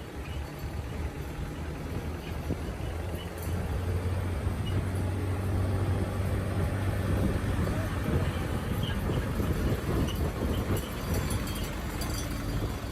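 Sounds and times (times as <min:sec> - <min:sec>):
vehicle engine low drone: 0:00.0 - 0:12.9.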